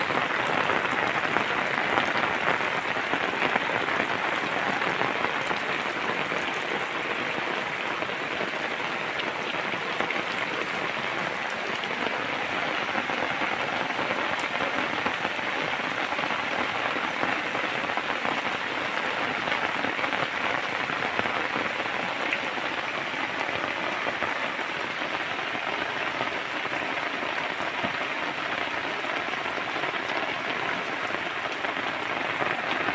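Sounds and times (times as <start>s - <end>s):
rain pattering on surfaces: 0.0s - 32.9s.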